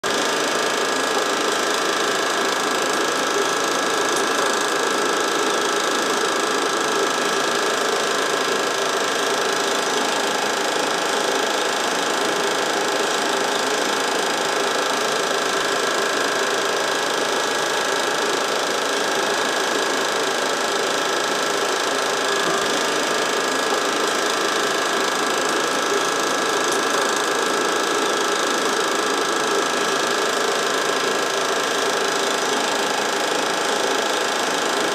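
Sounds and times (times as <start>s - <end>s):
film projector whirring and clatter: 0.0s - 34.9s.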